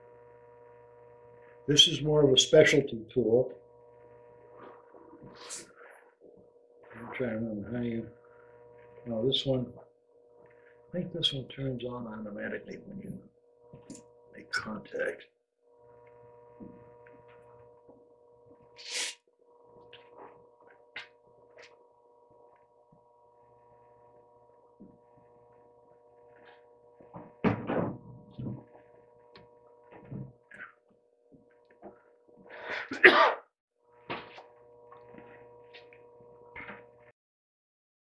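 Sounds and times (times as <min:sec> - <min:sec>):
electrical hum: 0:00.0 - 0:33.3, 0:33.9 - 0:37.1.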